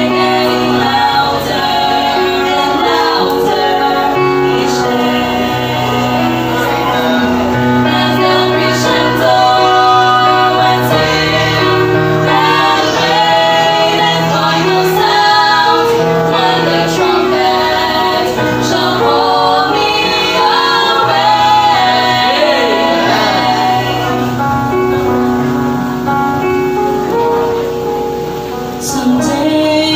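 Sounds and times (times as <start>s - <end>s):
vocal trio singing gospel: 0.0s - 25.2s, 28.8s - 29.9s
instrumental accompaniment: 0.0s - 29.9s.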